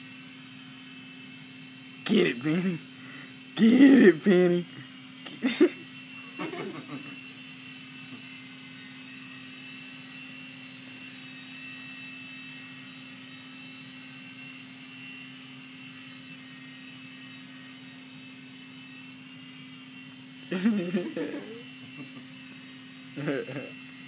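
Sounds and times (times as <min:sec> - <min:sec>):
toy helicopter rotors whining: 0:00.0 - 0:24.0.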